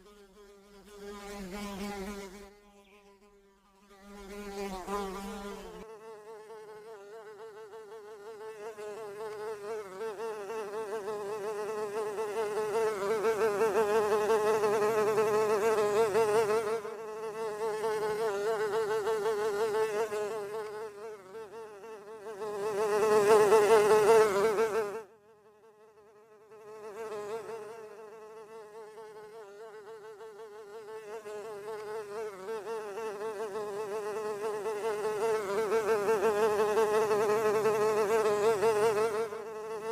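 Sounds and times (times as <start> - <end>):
housefly buzzing: 0.0 - 39.9.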